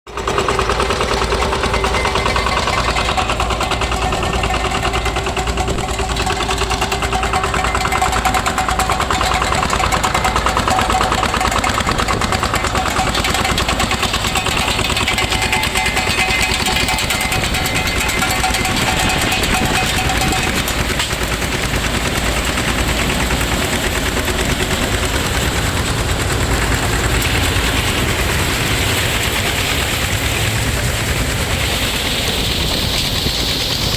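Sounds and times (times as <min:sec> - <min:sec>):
diesel engine knocking: 0:00.1 - 0:33.9
thresher machinery running: 0:00.1 - 0:33.9.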